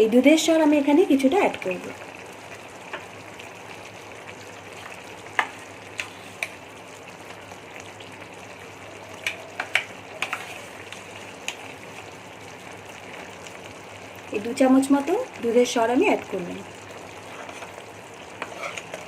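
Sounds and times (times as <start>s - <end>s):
gravy sizzling in a pan: 0.0s - 19.0s.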